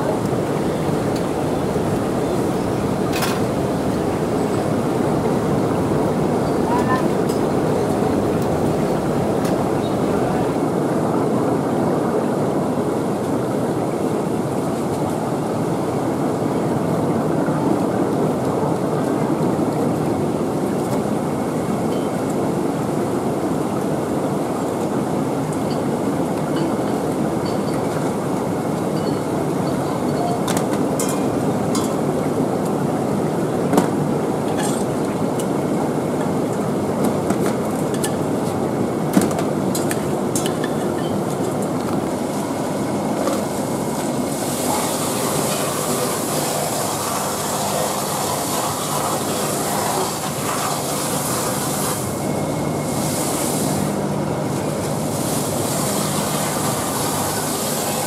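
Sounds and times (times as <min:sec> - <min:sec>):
loud background rumble: 0:00.0 - 0:58.0.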